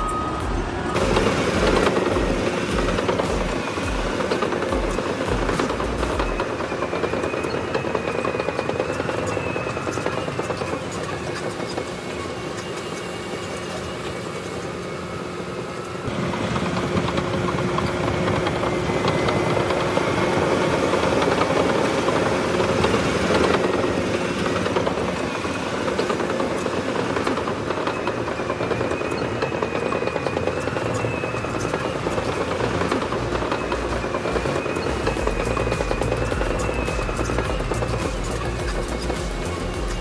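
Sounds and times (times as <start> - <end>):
bulldozer diesel engine running: 0.0 - 12.6, 16.0 - 40.0.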